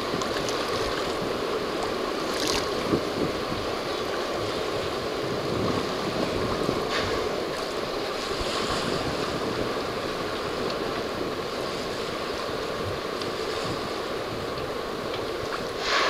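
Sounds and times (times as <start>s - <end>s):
water rushing along a hull: 0.0s - 16.0s
wind buffeting microphone: 0.0s - 16.0s.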